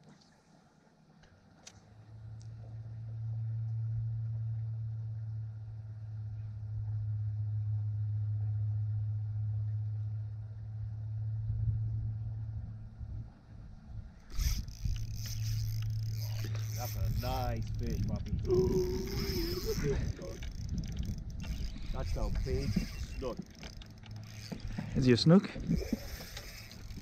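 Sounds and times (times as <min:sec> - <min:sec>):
boat motor humming: 0:01.8 - 0:27.0.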